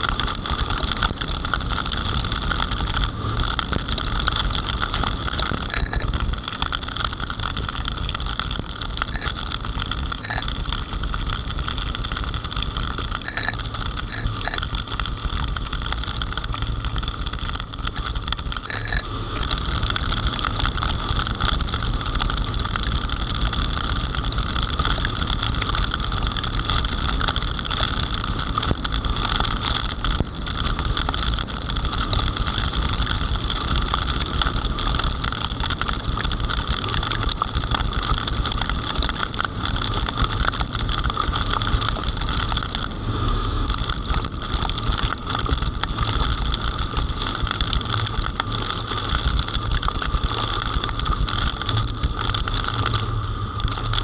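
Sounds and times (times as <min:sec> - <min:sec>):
heavy rain: 0:00.0 - 0:54.0
low engine and road rumble: 0:00.0 - 0:54.0.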